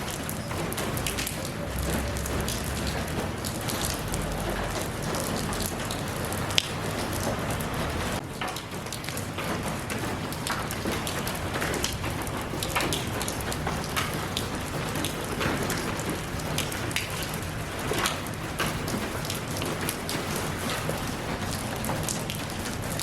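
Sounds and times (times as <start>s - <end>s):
sharp water drip: 0.0s - 23.0s
steady rain: 0.0s - 23.0s.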